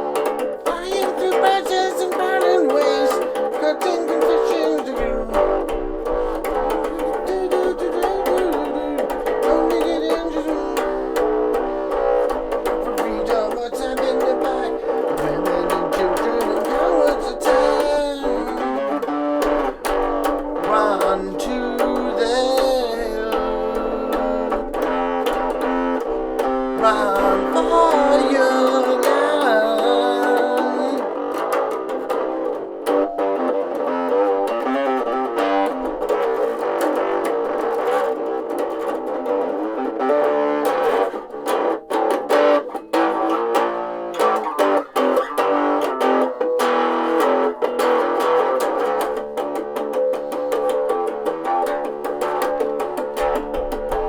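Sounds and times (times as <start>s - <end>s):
electric bass riffs through small amp: 4.3s - 54.0s.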